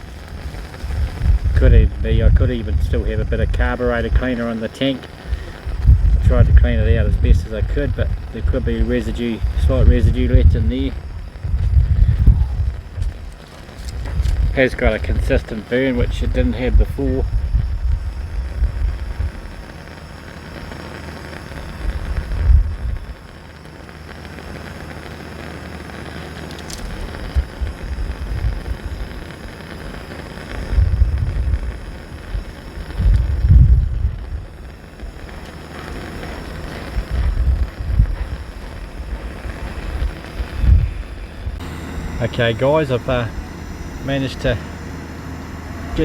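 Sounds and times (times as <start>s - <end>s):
wind buffeting microphone: 0.0s - 23.4s, 26.0s - 46.0s
pressure lantern hissing: 0.0s - 46.0s.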